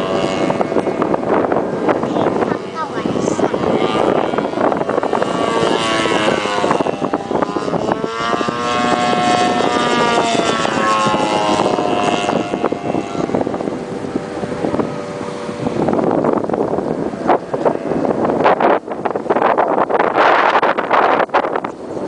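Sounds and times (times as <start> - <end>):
model airplane engine buzzing: 0.0 - 22.0.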